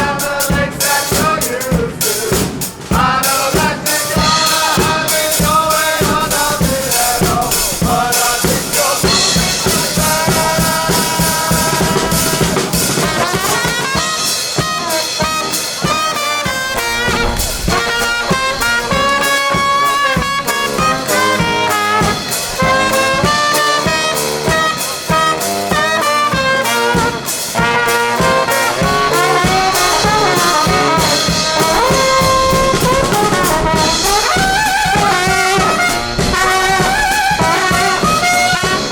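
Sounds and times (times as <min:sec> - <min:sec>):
drum kit beat: 0:00.0 - 0:38.9
trombone: 0:00.0 - 0:38.9
trumpet: 0:00.0 - 0:38.9.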